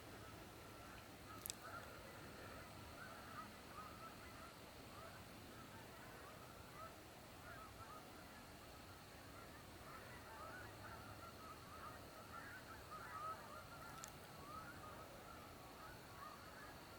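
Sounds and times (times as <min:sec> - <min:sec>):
geese honking: 0:00.8 - 0:16.9.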